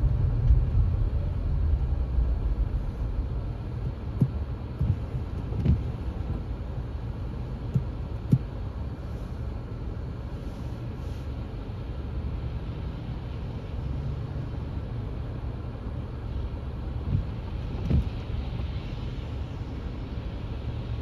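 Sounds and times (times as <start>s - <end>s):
cars passing on wet road: 0.0s - 21.0s.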